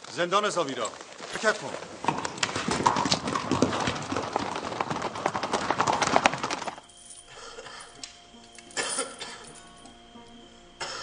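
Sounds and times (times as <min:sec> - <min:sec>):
horse hooves clattering: 0:00.0 - 0:10.0.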